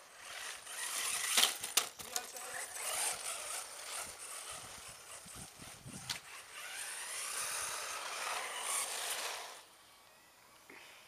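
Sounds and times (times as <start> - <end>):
rc car motor whining: 0.0 - 11.0
tyres rasping on pavers: 0.1 - 9.7.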